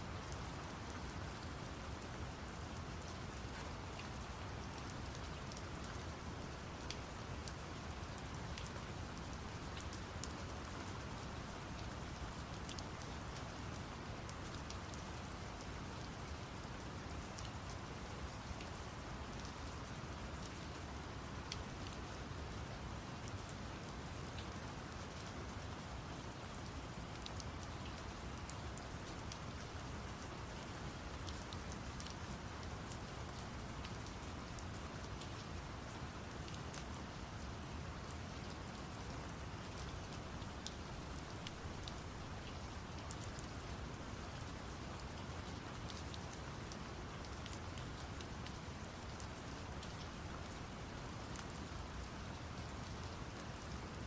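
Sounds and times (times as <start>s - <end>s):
rain drops ticking: 0.0s - 54.0s.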